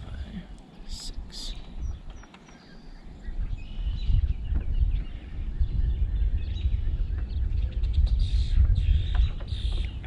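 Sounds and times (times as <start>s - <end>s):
faint birds chirping: 0.0s - 10.0s
wind buffeting microphone: 0.0s - 10.0s.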